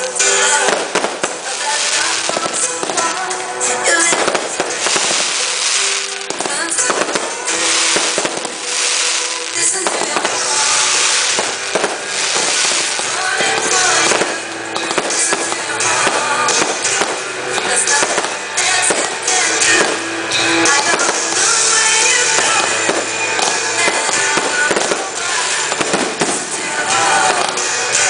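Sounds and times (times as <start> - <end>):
fireworks bursting and crackling: 0.0 - 28.0
music playing: 0.0 - 28.0.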